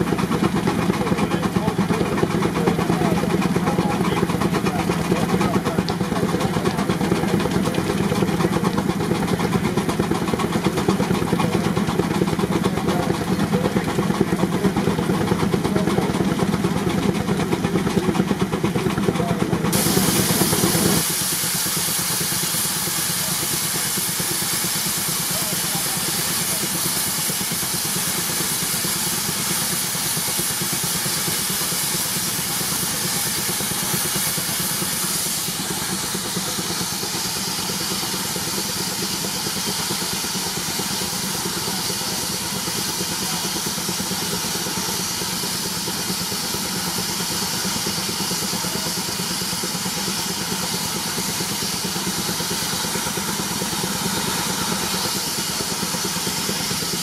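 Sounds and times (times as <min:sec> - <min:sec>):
steam engine exhaust beating: 0:00.0 - 0:57.0
steam hissing: 0:00.0 - 0:57.0.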